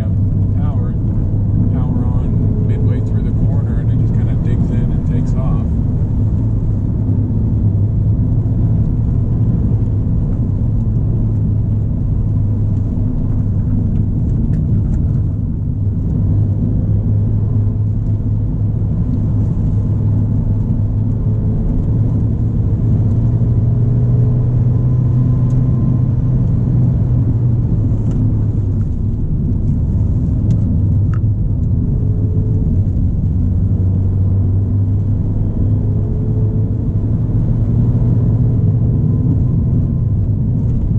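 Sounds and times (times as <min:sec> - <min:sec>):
car engine and road drone: 0:00.0 - 0:40.9.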